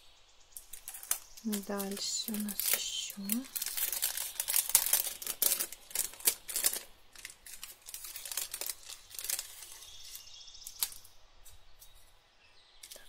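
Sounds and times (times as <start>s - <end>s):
plastic packet crinkling: 0.6s - 11.6s.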